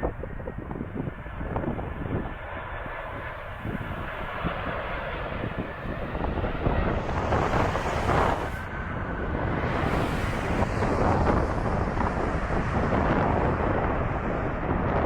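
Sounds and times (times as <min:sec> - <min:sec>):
jet airliner passing overhead: 0:00.0 - 0:15.0
wind buffeting microphone: 0:00.0 - 0:15.0.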